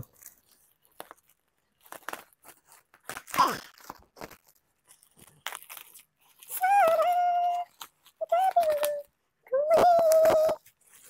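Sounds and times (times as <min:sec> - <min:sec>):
bubble wrap crinkling and tearing: 0:00.0 - 0:11.0
scissors cutting bubble wrap: 0:00.0 - 0:11.0.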